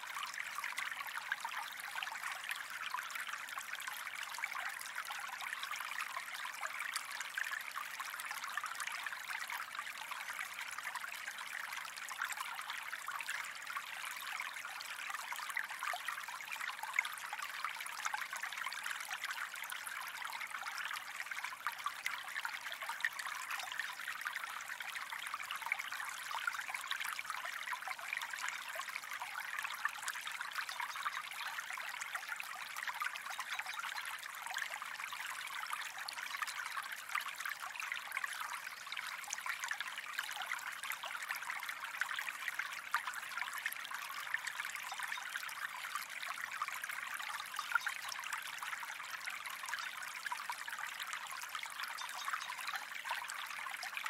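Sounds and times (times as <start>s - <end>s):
stream trickling and splashing: 0.0s - 54.0s.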